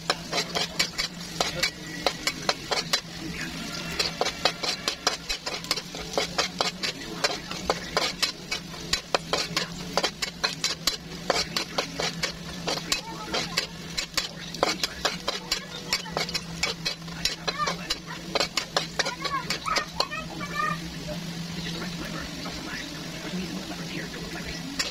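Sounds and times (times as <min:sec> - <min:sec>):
metal spatula scraping wok: 0:00.0 - 0:20.4, 0:24.0 - 0:24.9
food sauteing: 0:00.0 - 0:24.9.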